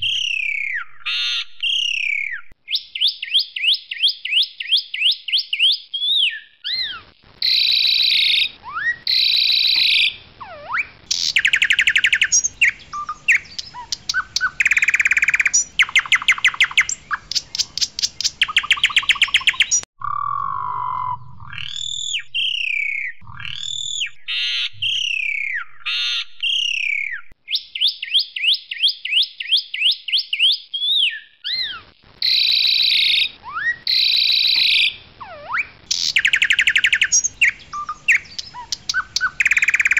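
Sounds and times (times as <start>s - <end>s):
starling singing: 4.3s - 28.5s, 29.8s - 39.9s.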